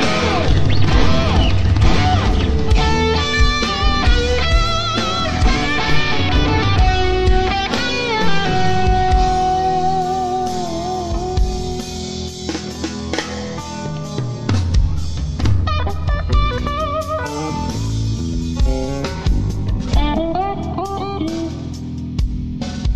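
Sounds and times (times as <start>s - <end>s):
bass guitar: 0.0s - 22.9s
drums: 0.0s - 22.9s
lead electric guitar with vibrato: 0.0s - 22.9s.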